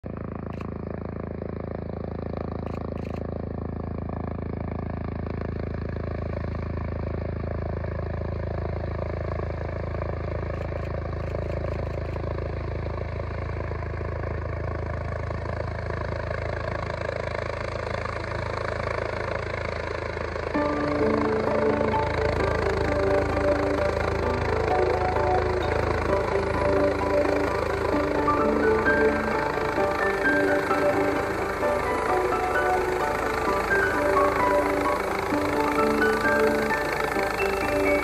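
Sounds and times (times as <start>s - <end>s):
helicopter rotor and turbine: 0.0s - 38.0s.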